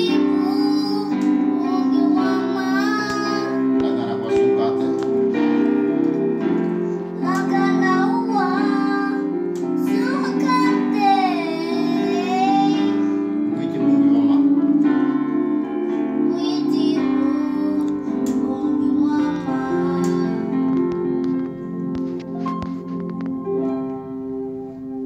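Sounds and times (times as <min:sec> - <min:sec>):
electronic keyboard chords: 0:00.0 - 0:25.0.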